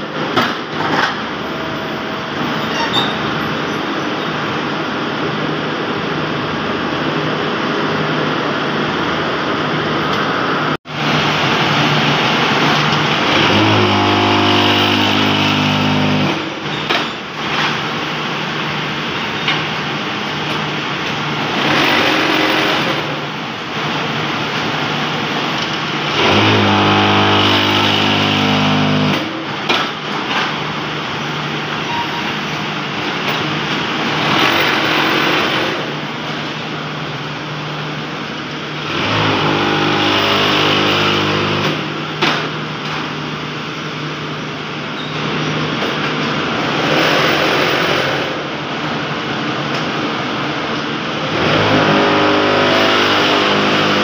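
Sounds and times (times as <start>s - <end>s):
brick press machine drone: 0.0s - 54.0s.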